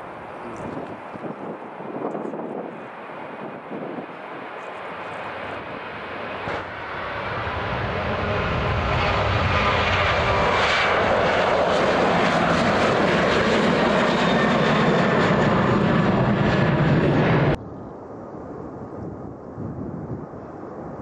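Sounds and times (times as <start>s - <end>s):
jet engines roaring at takeoff: 0.0s - 21.0s.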